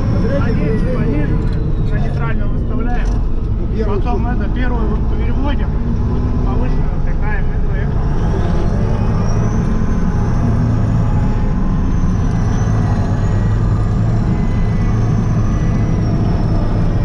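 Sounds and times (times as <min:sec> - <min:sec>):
tractor diesel engine rumbling: 0:00.0 - 0:17.0.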